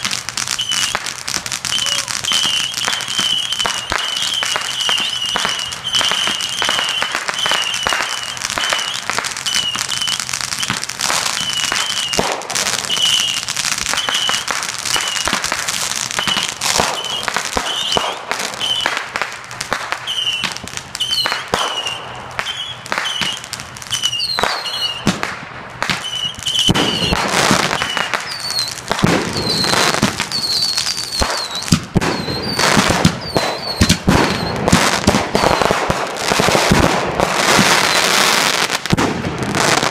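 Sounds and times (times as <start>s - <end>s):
fireworks popping and banging: 0.0s - 39.9s
fireworks whistling: 0.0s - 39.9s.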